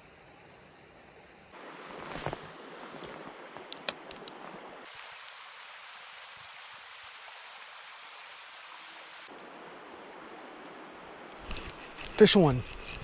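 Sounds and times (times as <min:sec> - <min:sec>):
creek water rushing: 0:00.5 - 0:13.0.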